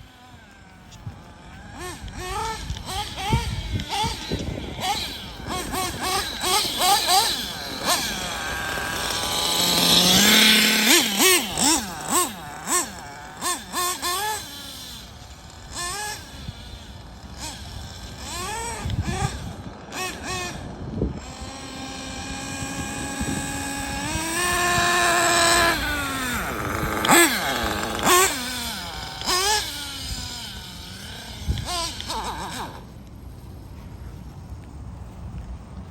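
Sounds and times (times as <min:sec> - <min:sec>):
model car engine revving: 0:00.0 - 0:33.1.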